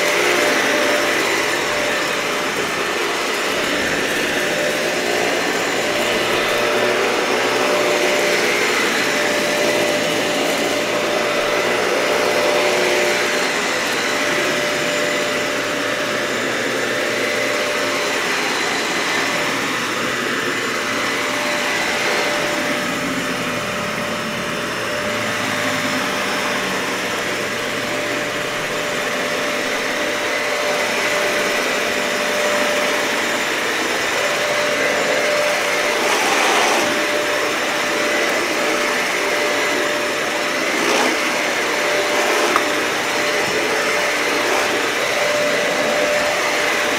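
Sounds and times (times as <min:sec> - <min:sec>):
vacuum cleaner on carpet: 0:00.0 - 0:46.9.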